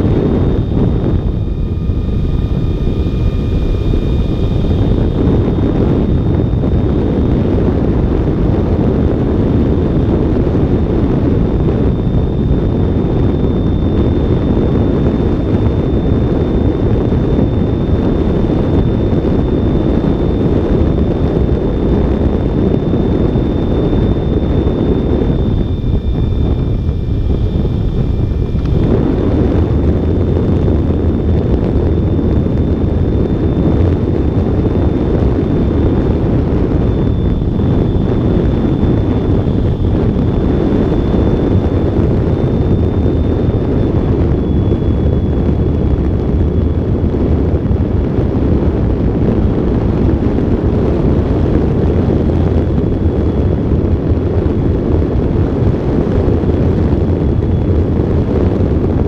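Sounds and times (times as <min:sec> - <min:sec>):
thin high whine: 0:00.0 - 0:59.0
wind rushing over microphone: 0:00.0 - 0:59.0.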